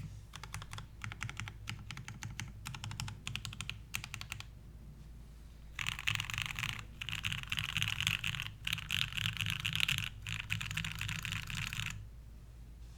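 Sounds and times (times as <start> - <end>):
fast mechanical keyboard typing: 0.4 - 4.5, 5.8 - 12.0.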